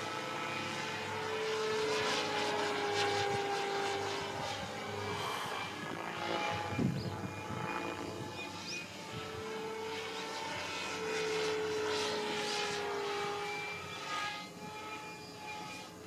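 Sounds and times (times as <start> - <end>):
model helicopter rotor whine: 0.0 - 16.0.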